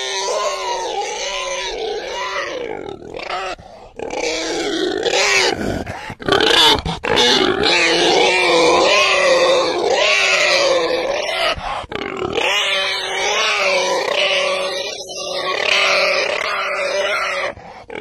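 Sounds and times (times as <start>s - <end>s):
pig squealing: 0.0s - 18.0s.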